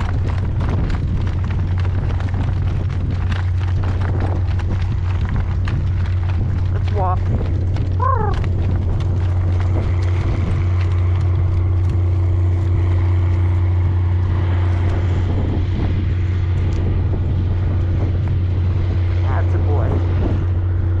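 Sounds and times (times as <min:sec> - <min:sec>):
motor rumble: 0:00.0 - 0:21.0.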